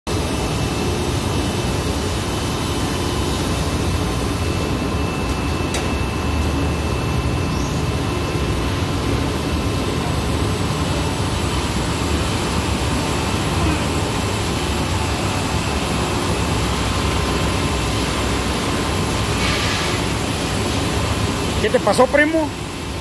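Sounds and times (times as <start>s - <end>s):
machinery low rumble: 0.1s - 23.0s.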